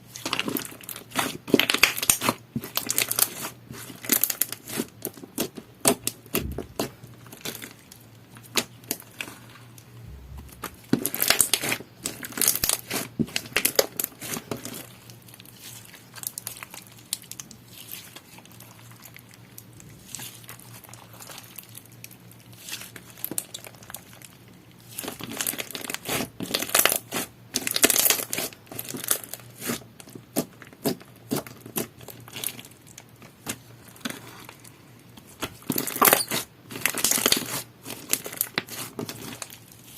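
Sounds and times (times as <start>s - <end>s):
slime being squished by hand: 0.1s - 24.3s, 24.9s - 39.9s.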